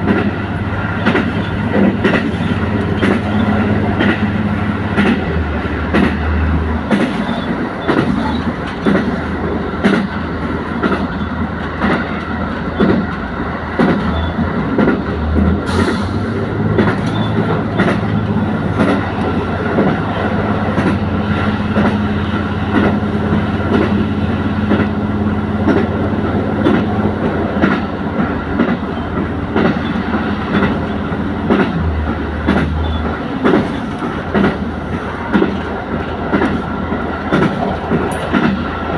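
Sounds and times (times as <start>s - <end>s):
train wheels clattering over rail joints: 0.0s - 38.9s.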